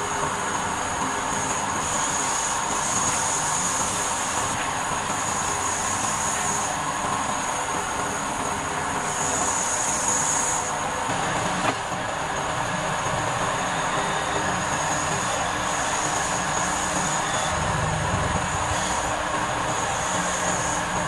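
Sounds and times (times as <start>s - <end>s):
wood lathe whining: 0.0s - 21.0s.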